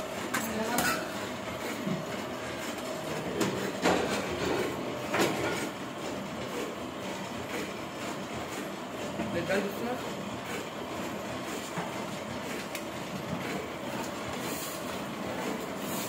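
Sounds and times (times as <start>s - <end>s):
printing press running: 0.0s - 16.0s.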